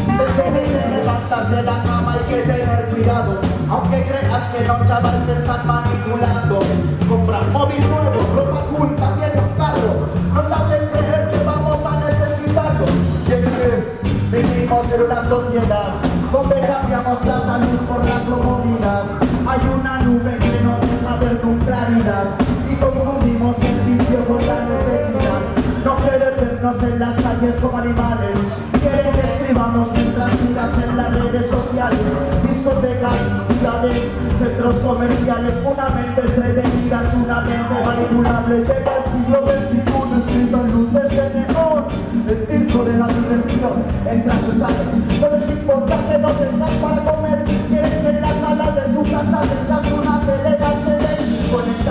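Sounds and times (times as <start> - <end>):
man singing into a microphone: 0.0 - 51.9
reggae band playing: 0.0 - 51.9.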